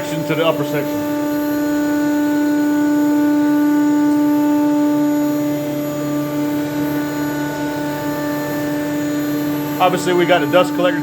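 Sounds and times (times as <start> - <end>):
router spindle whine cutting plastic: 0.0 - 11.0.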